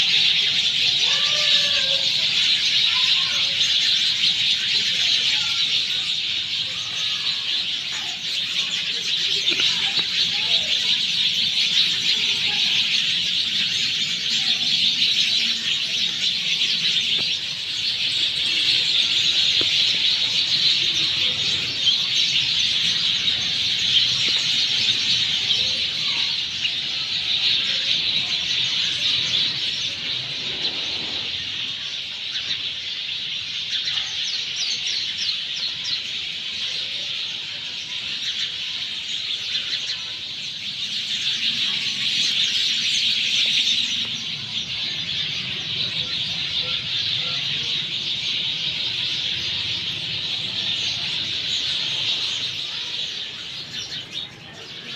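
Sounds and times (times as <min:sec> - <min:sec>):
sparrows chattering: 0:00.0 - 0:54.9.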